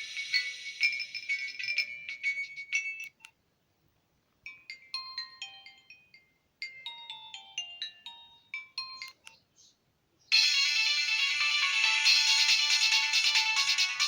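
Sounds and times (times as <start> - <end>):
mobile phone ringtone melody: 0.0 - 3.2, 4.5 - 9.3, 10.3 - 14.0.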